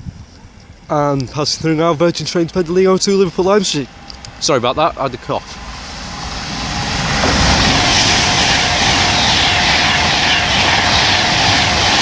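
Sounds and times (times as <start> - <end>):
faint steady whine: 0.0 - 11.4
train passing at speed: 1.6 - 12.0.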